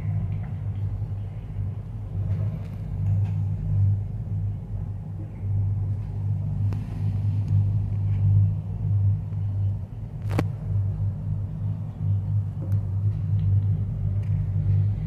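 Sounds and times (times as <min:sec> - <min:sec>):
gondola cabin rumbling along cable: 0:00.0 - 0:15.0.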